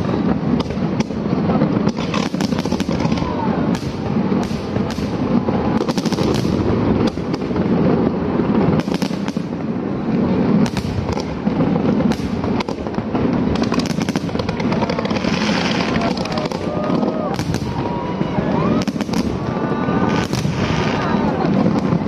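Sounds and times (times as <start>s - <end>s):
fireworks bangs and crackles: 0.0s - 22.0s
rumble of explosions: 0.0s - 22.0s.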